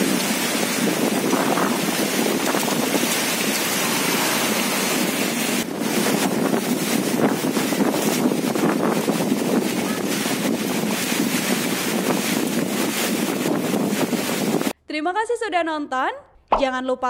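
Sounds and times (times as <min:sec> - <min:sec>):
strong wind on microphone: 0:00.0 - 0:14.7.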